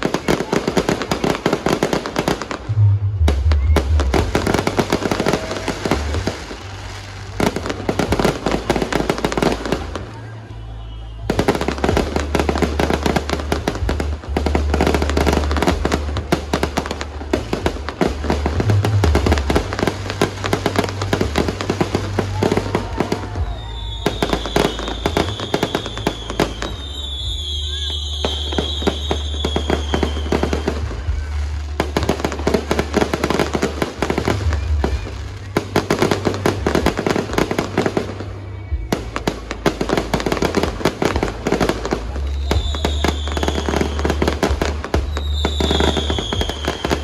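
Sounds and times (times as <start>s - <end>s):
fireworks bangs and crackles: 0.0s - 47.0s
music with deep bass: 0.0s - 47.0s.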